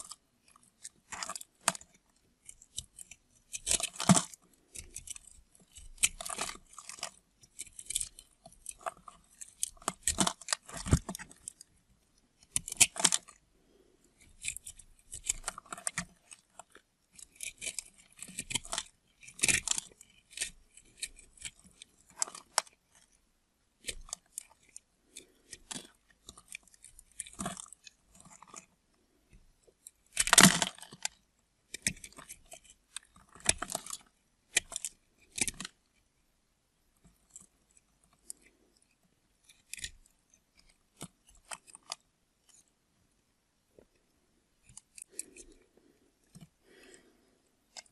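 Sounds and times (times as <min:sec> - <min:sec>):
knife cutting through soap: 0:00.0 - 0:11.8, 0:12.4 - 0:23.2, 0:23.8 - 0:35.8, 0:38.2 - 0:42.7.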